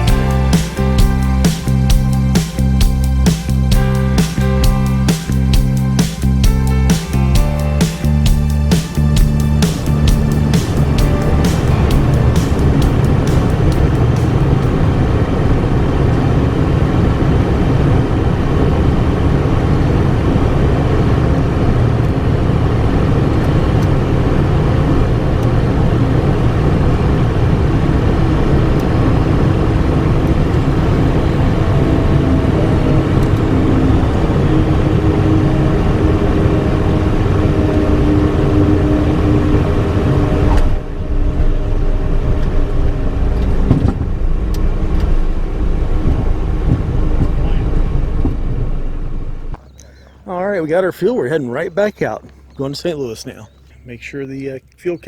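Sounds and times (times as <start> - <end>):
vehicle running loudly: 0.0 - 49.6.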